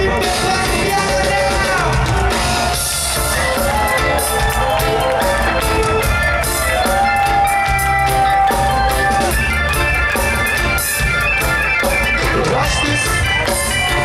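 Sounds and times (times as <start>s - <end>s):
reggae band playing live: 0.0s - 14.0s.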